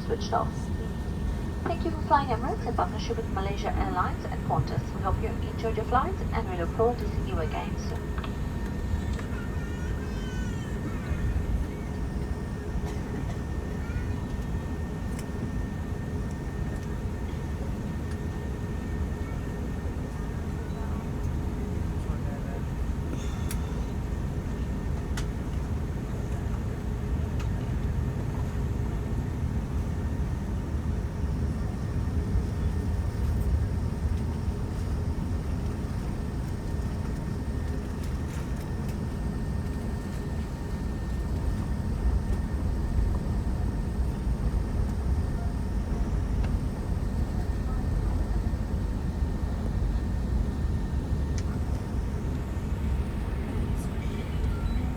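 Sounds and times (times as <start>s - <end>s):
airplane cabin rumble: 0.0s - 54.9s
faint steady hums: 0.0s - 54.9s.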